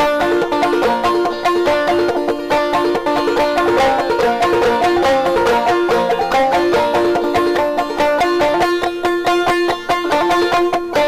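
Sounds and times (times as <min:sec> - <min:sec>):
bluegrass banjo picking: 0:00.0 - 0:11.0.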